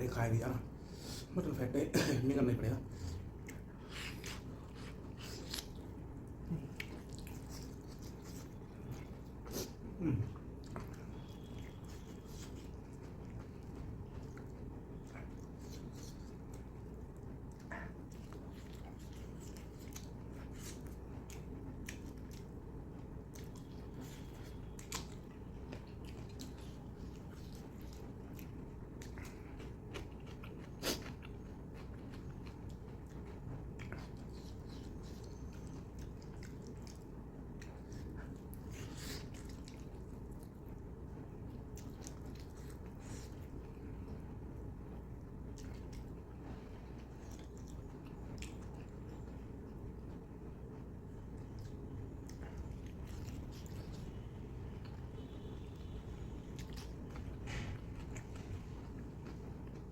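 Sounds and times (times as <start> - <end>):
low background hum: 0.0 - 59.9
person chewing with mouth clicks: 3.0 - 16.8, 17.5 - 22.6, 23.2 - 40.6, 45.5 - 50.1, 51.1 - 54.1, 54.8 - 59.9.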